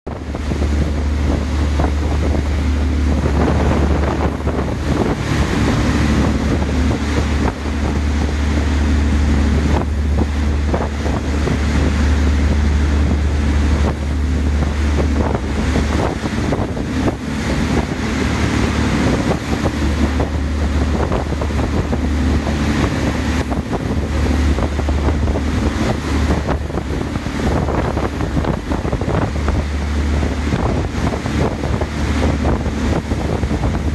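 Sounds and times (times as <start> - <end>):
boat engine hum: 0.0 - 33.9
churning wake water: 0.0 - 33.9
wind buffeting microphone: 0.1 - 33.9.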